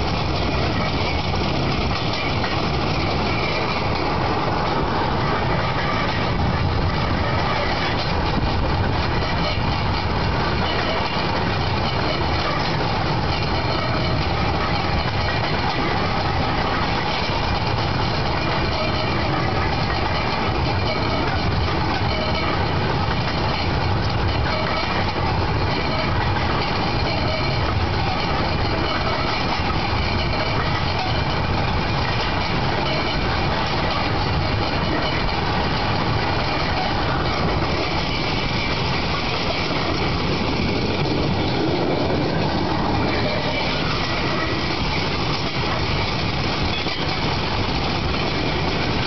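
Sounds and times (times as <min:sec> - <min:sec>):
rail vehicle engine running: 0:00.0 - 0:49.0
wheels on rails: 0:00.0 - 0:49.0.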